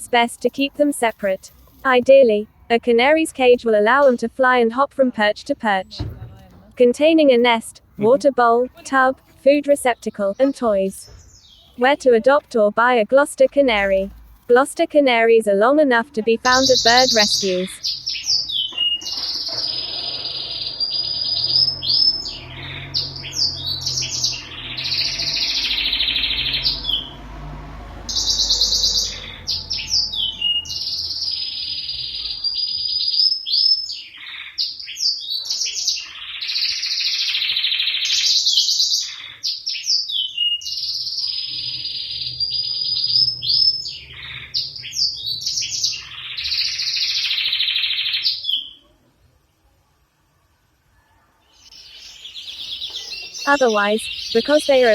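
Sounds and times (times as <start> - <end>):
canary singing trills: 0.0 - 49.0, 51.5 - 54.9.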